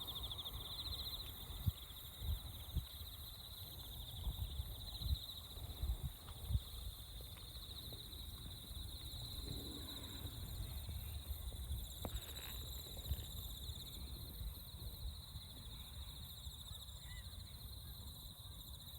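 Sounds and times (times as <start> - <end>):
insects chirping: 0.0 - 18.9.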